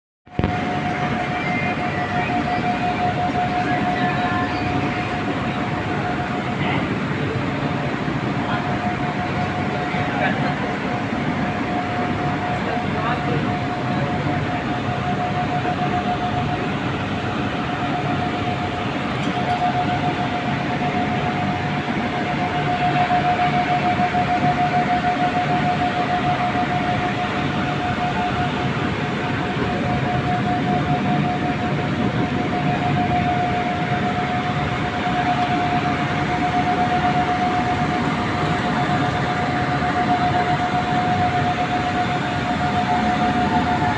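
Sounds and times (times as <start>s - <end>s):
continuous rushing industrial din: 0.3s - 43.9s
high-pitched whine: 0.3s - 43.9s.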